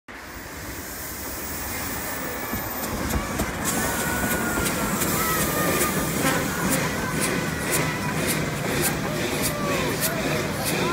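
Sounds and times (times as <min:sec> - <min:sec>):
steam locomotive hauling carriages: 0:00.1 - 0:10.9.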